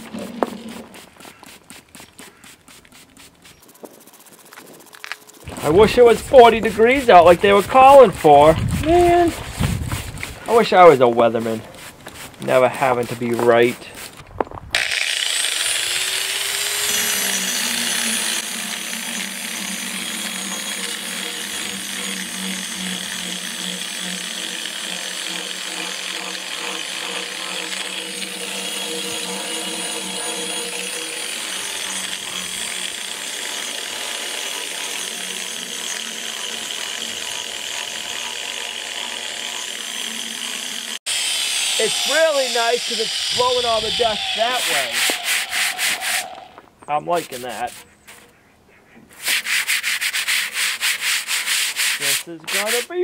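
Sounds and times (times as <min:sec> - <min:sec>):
grinder-polisher sanding concrete: 0:00.0 - 0:14.2, 0:14.8 - 0:46.4, 0:47.1 - 0:48.2, 0:49.2 - 0:53.0.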